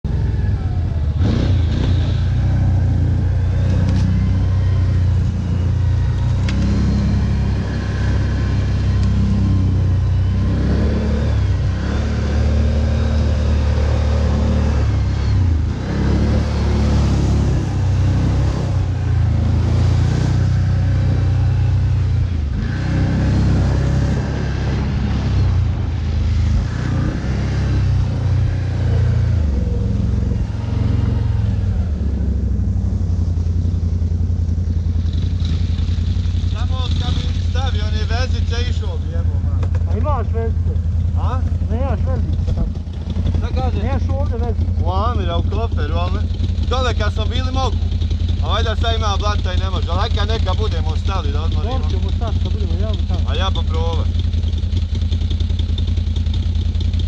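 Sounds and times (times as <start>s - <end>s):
quad bike engine revving: 0.1s - 57.0s.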